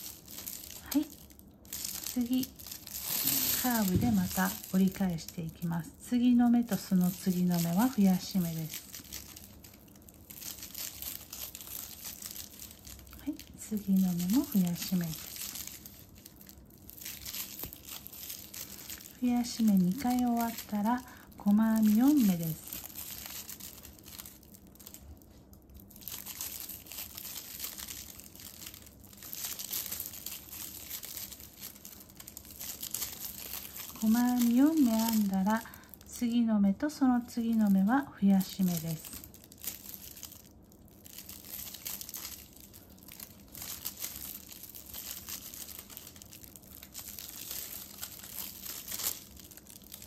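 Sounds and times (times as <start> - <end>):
plastic tape crinkling: 0.0 - 50.0.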